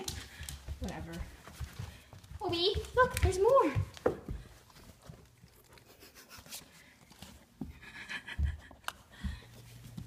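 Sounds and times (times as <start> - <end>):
dog paws clicking on floor: 0.0 - 10.0.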